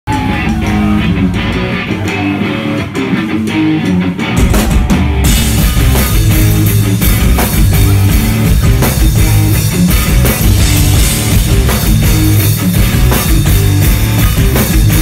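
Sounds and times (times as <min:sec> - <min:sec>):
electric guitar riff: 0:00.1 - 0:15.0
rock band playing loudly: 0:00.1 - 0:15.0.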